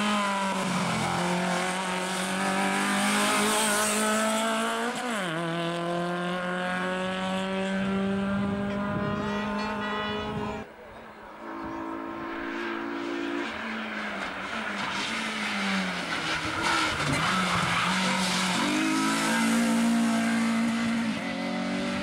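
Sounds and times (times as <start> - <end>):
rally car engine revving: 0.0 - 10.7, 11.4 - 22.0.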